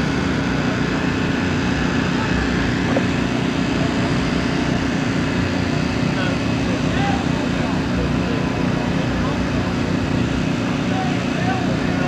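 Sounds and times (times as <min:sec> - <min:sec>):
loud low engine drone: 0:00.0 - 0:12.0.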